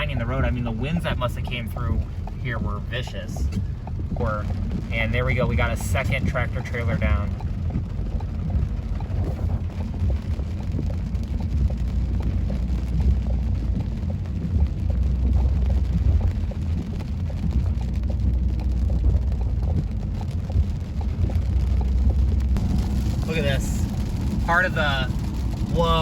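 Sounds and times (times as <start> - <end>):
light ticks: 0.0 - 22.6
car road and engine rumble: 0.0 - 26.0.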